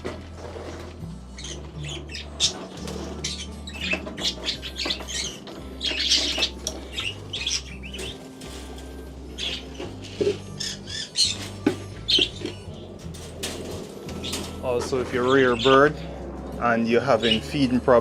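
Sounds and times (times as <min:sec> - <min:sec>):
pet birds squawking: 0:00.4 - 0:18.0.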